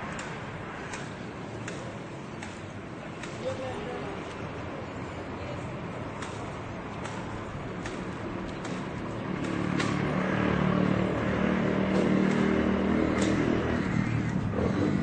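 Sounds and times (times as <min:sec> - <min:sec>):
city noise: 0:00.0 - 0:15.0.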